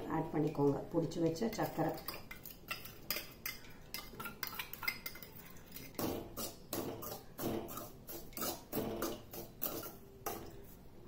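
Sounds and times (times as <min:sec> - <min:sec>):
spoon scraping and clinking pan: 0:01.1 - 0:10.8.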